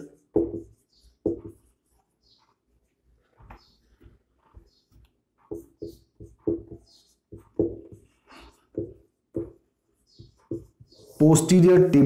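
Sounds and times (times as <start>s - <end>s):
marker squeaking on whiteboard: 0.0s - 12.0s.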